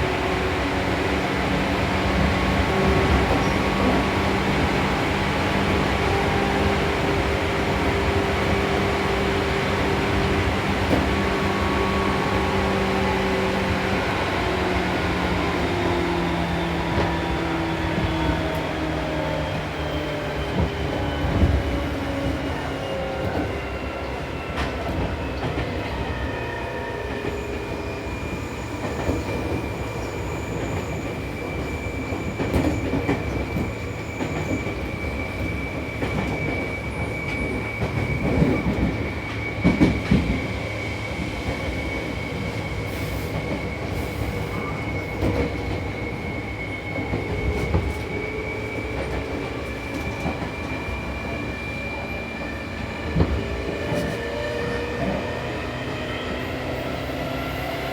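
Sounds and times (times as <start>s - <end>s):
wheels rumbling on rail: 0.0s - 57.9s.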